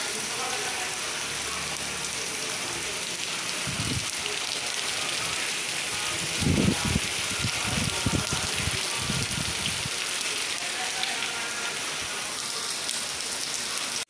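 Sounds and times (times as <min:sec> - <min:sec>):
heavy rain on cobblestones: 0:00.0 - 0:14.0.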